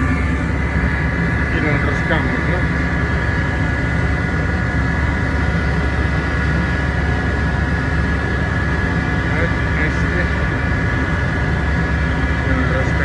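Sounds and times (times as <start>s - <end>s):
high-pitched whine: 0.0s - 13.0s
low machinery hum: 0.0s - 13.0s.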